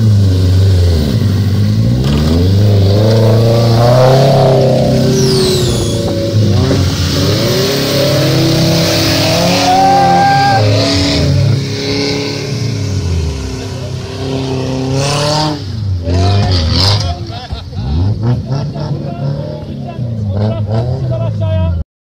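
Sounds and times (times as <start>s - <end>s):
off-road engine revving: 0.0s - 21.8s.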